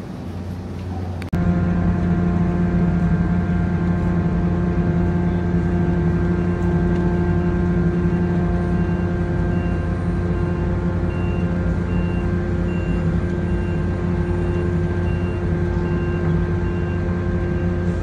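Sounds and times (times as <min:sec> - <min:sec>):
ship diesel engines droning: 0:00.0 - 0:18.0.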